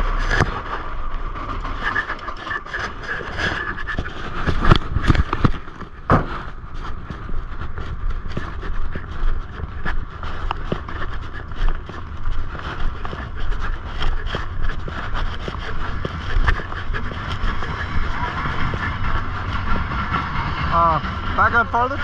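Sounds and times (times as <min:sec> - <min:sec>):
clicks and rattles: 0:00.0 - 0:20.6
diesel engine running: 0:00.0 - 0:22.0.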